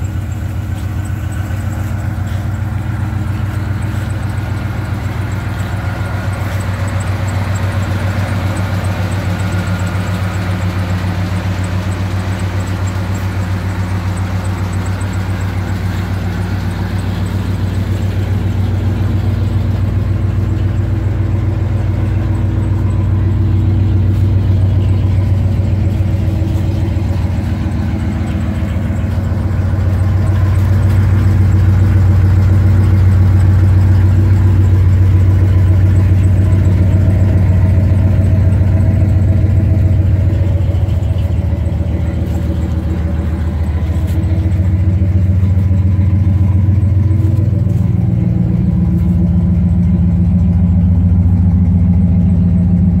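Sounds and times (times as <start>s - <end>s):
pickup engine idling: 0.0s - 53.0s.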